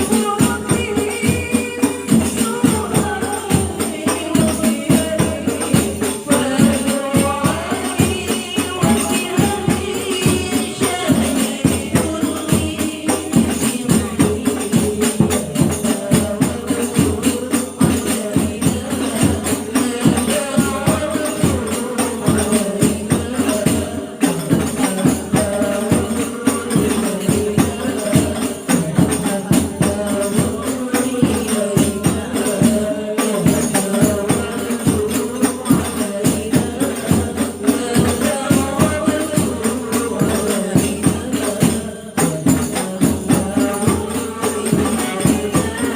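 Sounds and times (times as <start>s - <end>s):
frame drums beating: 0.0s - 45.9s
group of women singing: 0.0s - 45.9s.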